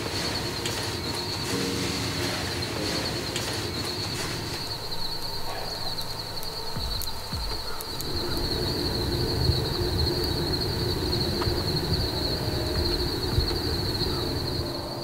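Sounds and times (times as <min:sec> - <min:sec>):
high insect buzz: 0:00.0 - 0:15.0
low uneven rumble: 0:00.0 - 0:15.0.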